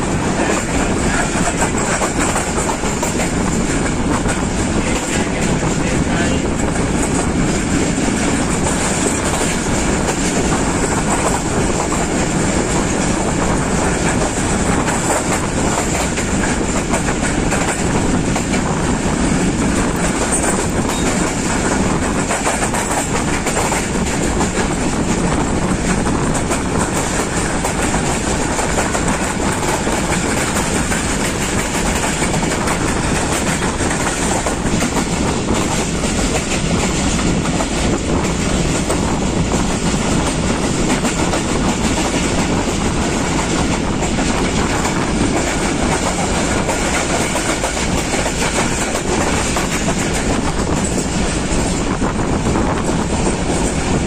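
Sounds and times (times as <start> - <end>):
rushing air: 0.0 - 54.0
train wheels on rails: 0.0 - 54.0.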